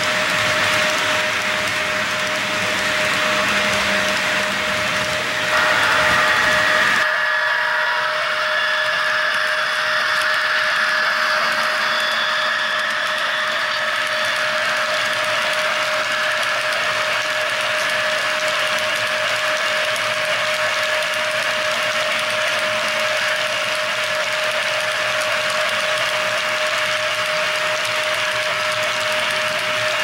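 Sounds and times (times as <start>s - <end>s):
model train wheels clattering: 0.0s - 7.0s, 8.9s - 30.0s
constant high whine: 0.0s - 30.0s.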